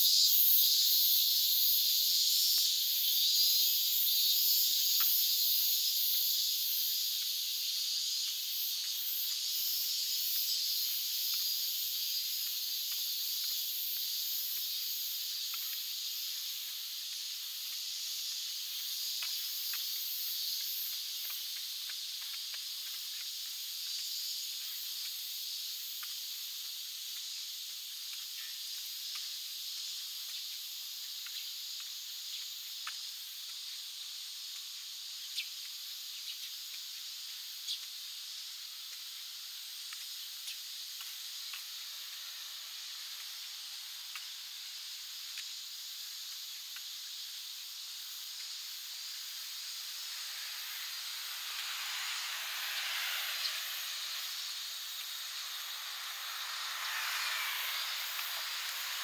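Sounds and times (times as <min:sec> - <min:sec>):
cicadas buzzing: 0:00.0 - 0:59.0.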